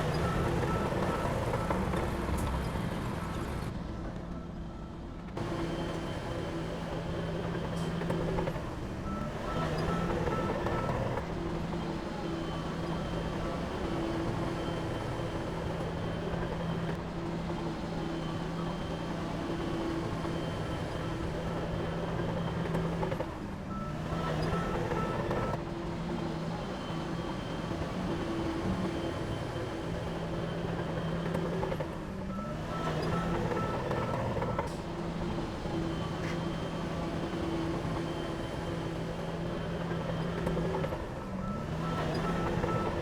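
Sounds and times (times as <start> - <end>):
rapid reversing alarm beeps: 0.0 - 2.1, 4.4 - 43.0.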